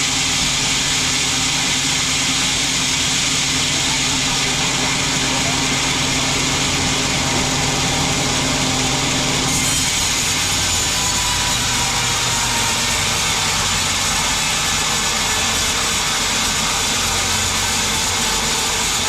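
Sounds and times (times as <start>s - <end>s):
band saw cutting log: 0.0s - 19.0s
machine hum: 0.0s - 19.0s.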